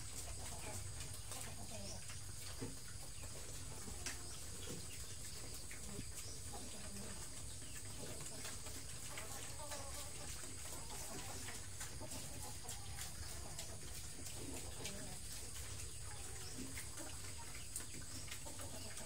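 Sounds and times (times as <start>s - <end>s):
chickens clucking: 0.0s - 19.0s
pigs chewing feed: 0.0s - 19.0s.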